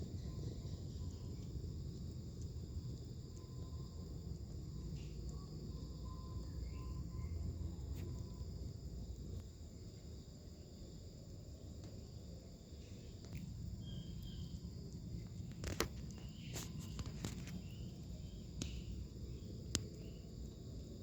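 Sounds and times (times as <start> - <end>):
insect chorus: 0.0 - 21.0
low background hum: 0.0 - 21.0.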